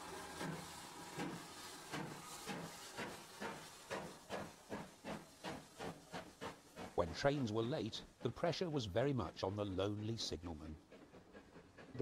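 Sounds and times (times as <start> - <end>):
steam locomotive chuffing: 0.0 - 12.0.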